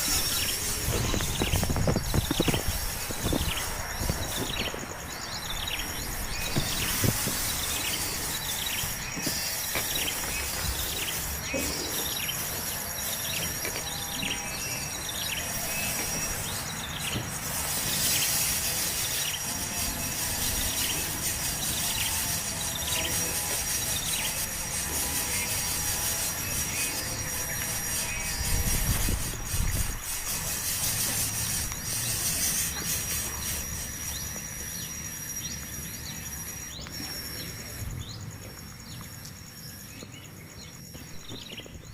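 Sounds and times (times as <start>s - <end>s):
steady hiss: 0.0s - 41.9s.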